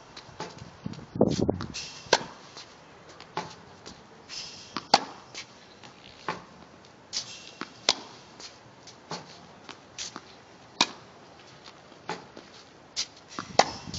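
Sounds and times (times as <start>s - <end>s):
tennis racket hitting balls: 1.5s - 11.1s, 11.7s - 13.9s.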